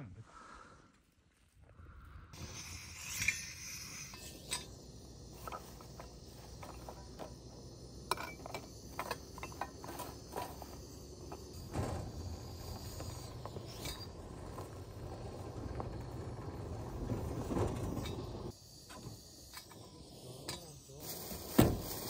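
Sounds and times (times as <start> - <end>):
gas stove hiss: 2.4 - 22.0.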